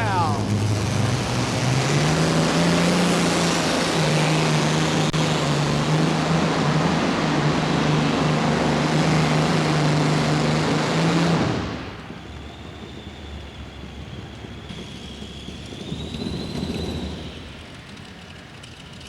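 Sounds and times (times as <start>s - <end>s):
tractor engines at full power: 0.0s - 19.0s.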